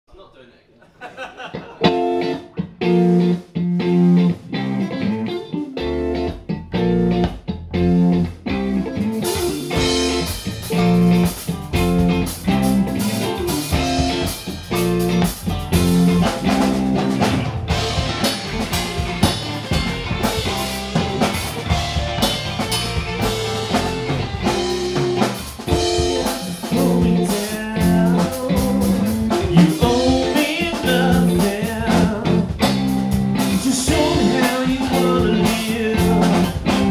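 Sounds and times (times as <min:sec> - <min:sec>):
bass guitar: 0:01.6 - 0:36.9
electric guitar riff: 0:01.8 - 0:36.9
drum kit with cymbals: 0:07.0 - 0:36.9.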